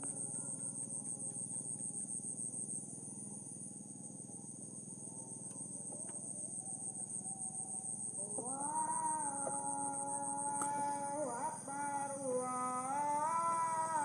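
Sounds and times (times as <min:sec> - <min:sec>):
crickets trilling: 0:00.0 - 0:14.0
insects droning: 0:00.0 - 0:14.0.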